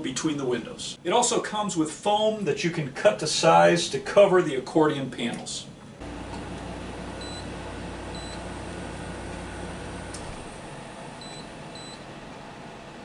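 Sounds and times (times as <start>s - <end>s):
air conditioner fan running: 0.0s - 13.0s.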